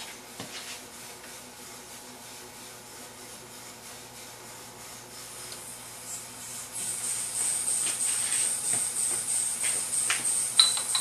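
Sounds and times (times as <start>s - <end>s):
steady hum and hiss: 0.0s - 11.0s.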